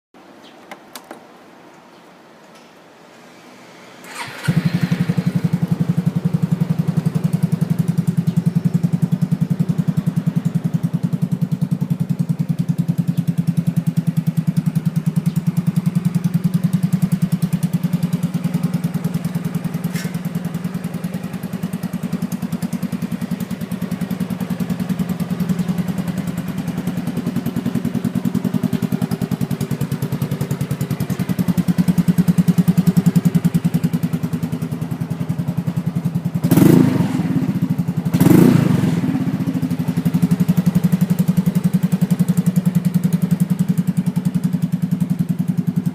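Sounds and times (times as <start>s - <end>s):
scooter engine starting and idling: 3.2s - 45.9s.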